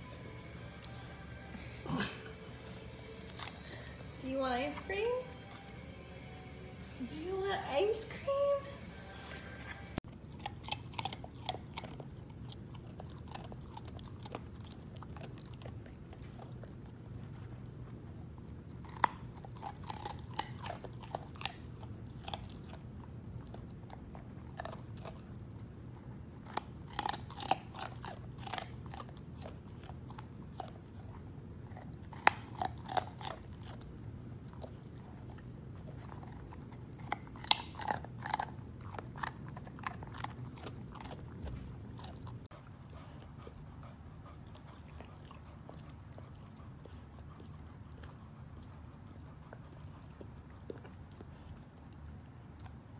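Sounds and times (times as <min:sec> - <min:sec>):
puppy crunching a carrot: 0:00.0 - 0:52.9.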